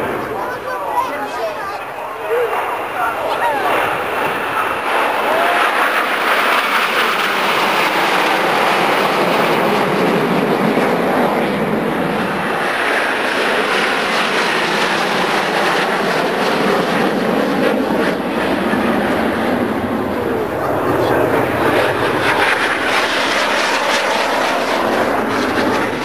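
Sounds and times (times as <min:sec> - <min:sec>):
jet planes flying past: 0:00.0 - 0:26.0.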